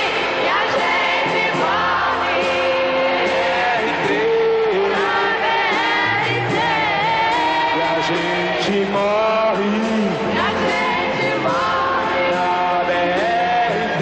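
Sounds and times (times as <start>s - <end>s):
live band with drums: 0.0s - 14.0s.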